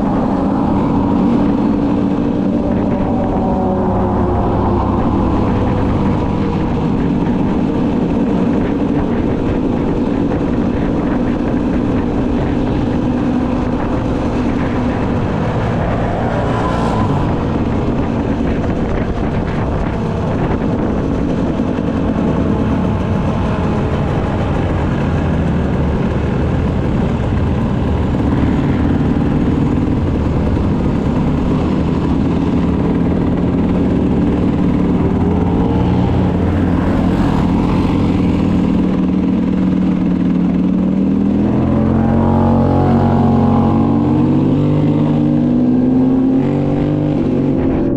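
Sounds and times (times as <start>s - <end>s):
motocross engines revving: 0.0s - 47.6s
motorcycle passing by: 0.0s - 47.9s.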